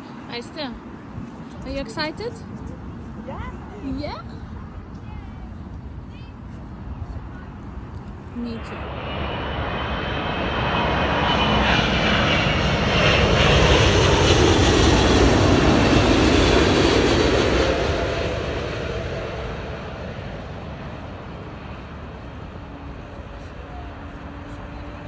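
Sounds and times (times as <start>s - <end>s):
jet plane passing overhead: 0.0s - 25.0s.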